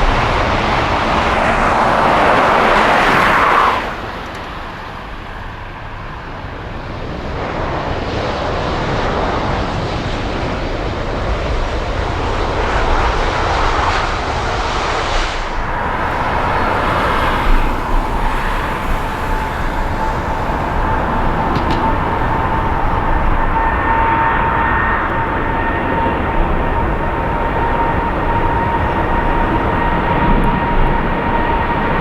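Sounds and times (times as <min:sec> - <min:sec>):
jet engines passing: 0:00.0 - 0:32.0.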